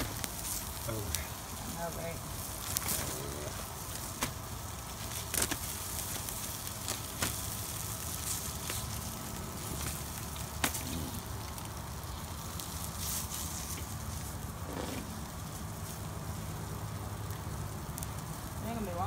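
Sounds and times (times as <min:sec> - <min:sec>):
chicken sizzling on grill: 0:00.0 - 0:19.0.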